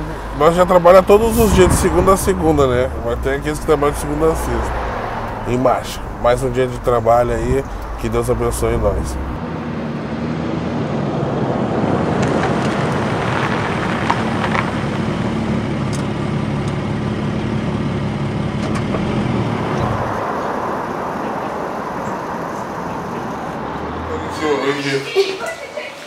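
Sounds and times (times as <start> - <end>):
car engine running: 0.0 - 24.6
traffic noise: 0.0 - 26.0.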